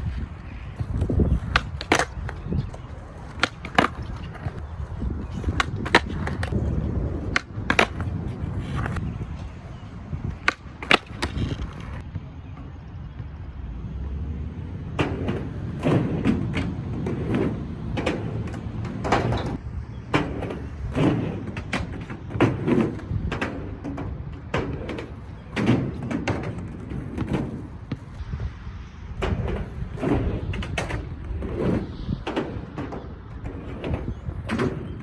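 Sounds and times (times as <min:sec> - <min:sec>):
skateboard wheels rolling: 0:00.0 - 0:35.0
skateboard clacks and knocks: 0:00.5 - 0:12.0, 0:14.9 - 0:28.1, 0:29.2 - 0:35.0.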